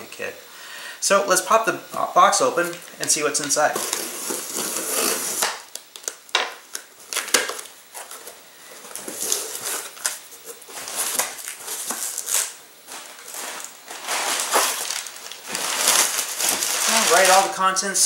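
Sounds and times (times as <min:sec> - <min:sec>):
packing paper rustling: 0:02.6 - 0:18.0.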